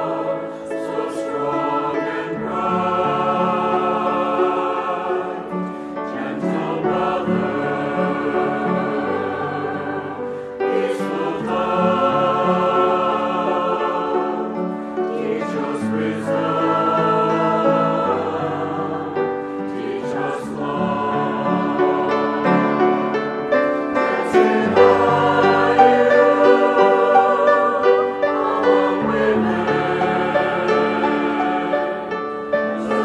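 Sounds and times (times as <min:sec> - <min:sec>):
choir singing a hymn: 0:00.0 - 0:33.0.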